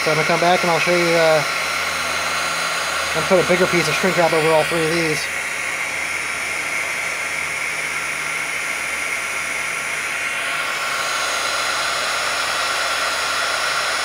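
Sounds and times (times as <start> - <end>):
heat gun blowing: 0.0 - 14.0.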